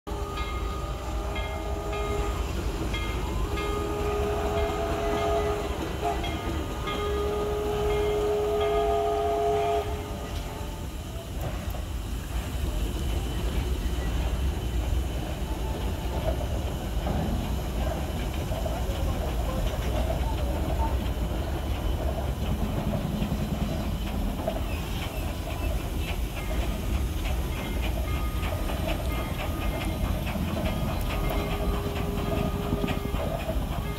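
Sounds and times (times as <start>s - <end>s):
locomotive rumble: 0.1s - 33.9s
metallic clanks on rails: 0.1s - 33.9s
steam crane machinery running: 0.1s - 33.9s.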